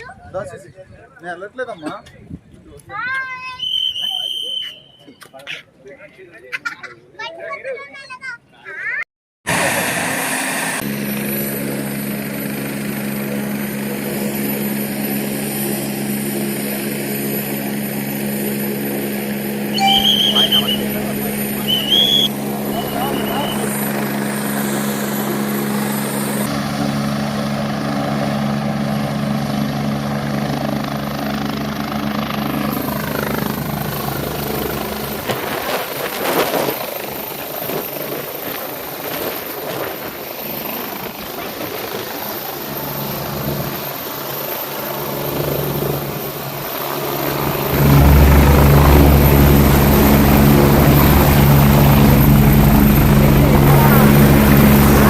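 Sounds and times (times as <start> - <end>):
helicopter turbine and rotor: 9.5 - 55.0.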